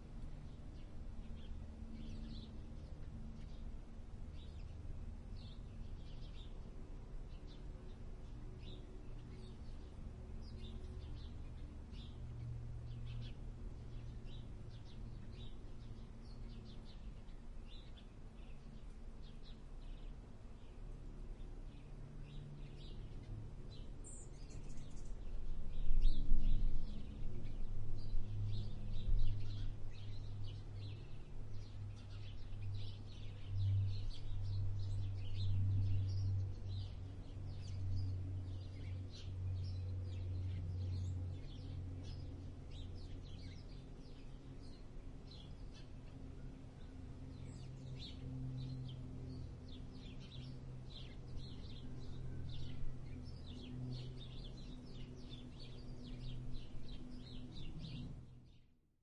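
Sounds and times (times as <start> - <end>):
birds chirping and twittering: 0.0 - 58.7
low steady rumble: 0.0 - 58.8.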